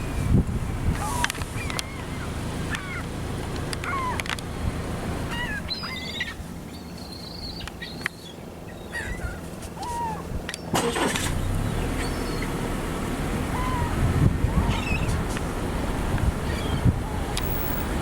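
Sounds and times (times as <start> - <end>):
seagulls calling: 1.0 - 4.4, 5.2 - 12.6, 13.4 - 15.4, 16.3 - 18.0.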